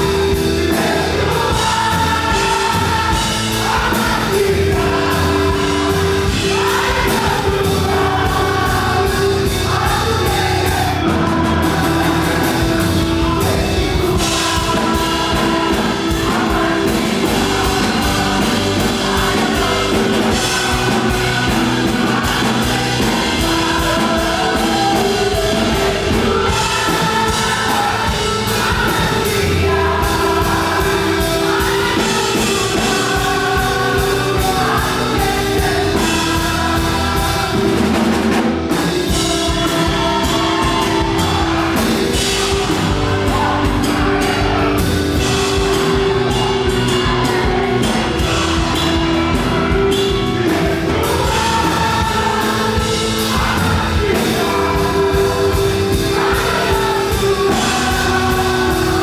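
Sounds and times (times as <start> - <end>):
band with drums: 0.0 - 59.0
group singing gospel: 0.0 - 59.0
sustained organ chord: 0.0 - 59.0.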